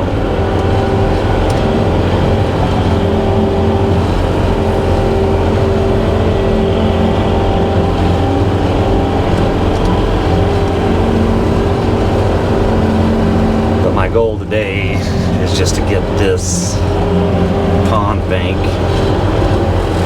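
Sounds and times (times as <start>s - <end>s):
skid steer engine droning: 0.0s - 20.0s.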